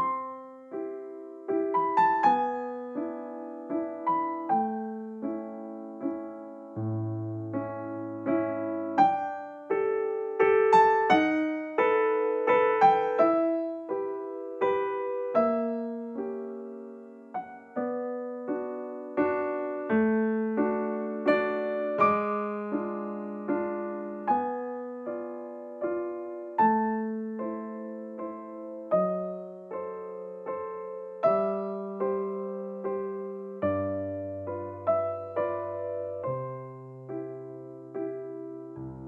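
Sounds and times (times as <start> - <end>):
gentle piano piece: 0.0 - 39.0.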